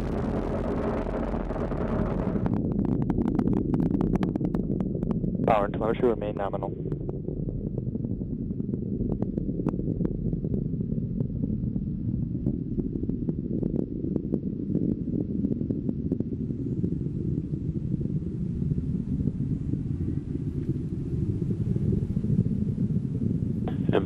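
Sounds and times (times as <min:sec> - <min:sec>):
rocket engines rumbling: 0:00.0 - 0:24.0.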